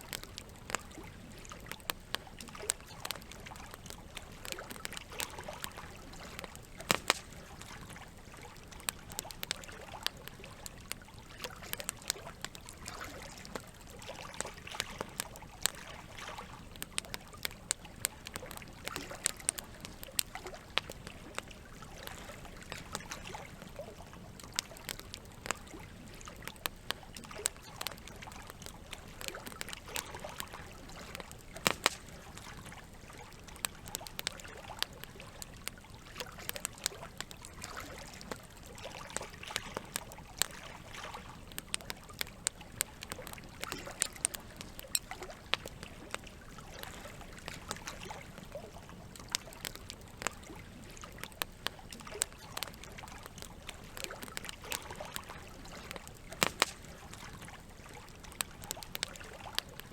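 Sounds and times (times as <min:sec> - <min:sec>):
campfire crackling and popping: 0:00.0 - 0:59.9
flowing water trickling: 0:00.0 - 0:59.9.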